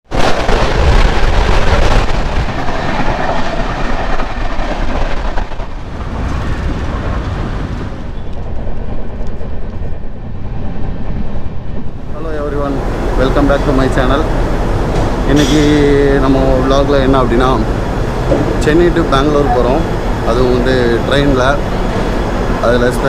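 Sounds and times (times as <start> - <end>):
train rumbling on rails: 0.1 - 23.0.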